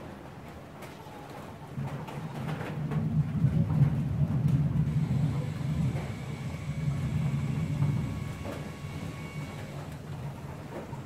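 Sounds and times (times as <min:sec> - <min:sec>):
distant thunder rumbling: 0:01.1 - 0:11.0.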